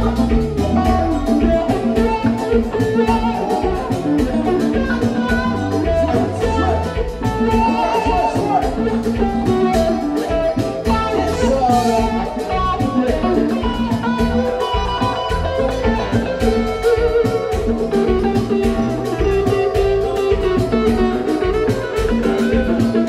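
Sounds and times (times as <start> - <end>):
bass and drums: 0.0 - 23.0
electric guitar lead: 0.0 - 23.0.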